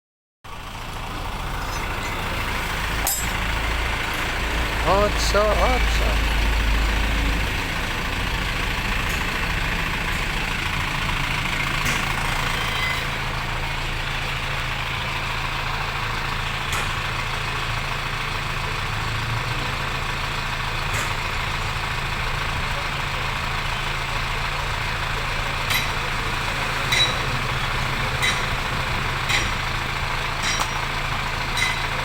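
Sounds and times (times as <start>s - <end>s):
engine idling: 0.5s - 32.0s.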